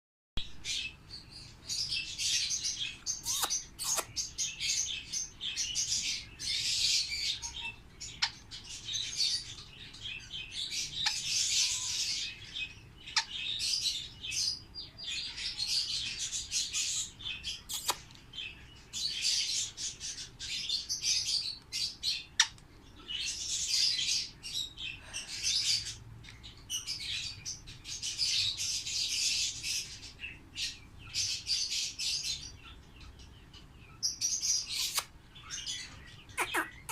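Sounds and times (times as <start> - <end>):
parrots chattering and chirping: 1.8 - 36.9.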